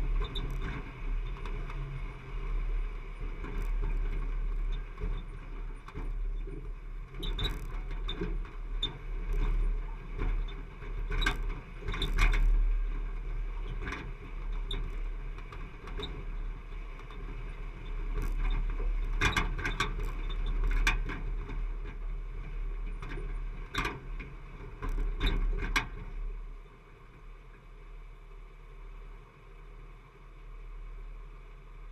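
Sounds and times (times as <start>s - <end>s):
vehicle engine rumble: 0.0s - 31.9s.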